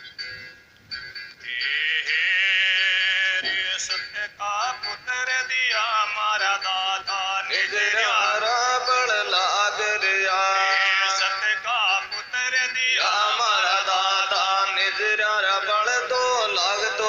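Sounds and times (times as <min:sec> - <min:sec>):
man singing: 0:01.4 - 0:17.0.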